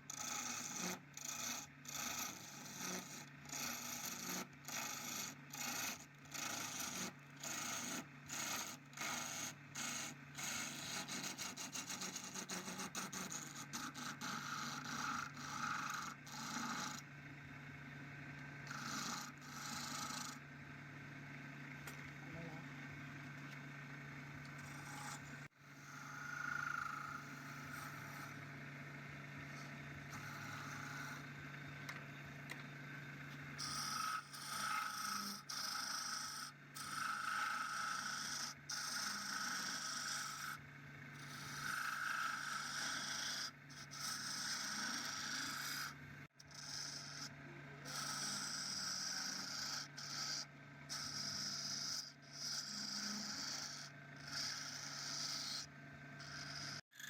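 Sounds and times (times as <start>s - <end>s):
steady low hum: 1.9s - 57.0s.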